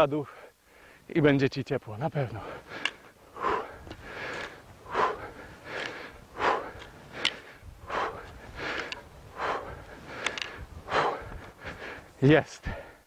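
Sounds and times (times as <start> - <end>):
man breathing hard: 0.2 - 1.1, 2.3 - 13.0.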